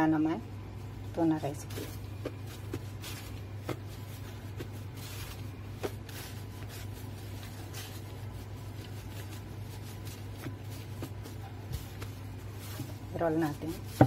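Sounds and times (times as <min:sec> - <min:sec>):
dough squishing: 0:00.0 - 0:14.0
steady low hum: 0:00.0 - 0:14.0
plastic glove rustling: 0:00.3 - 0:14.0.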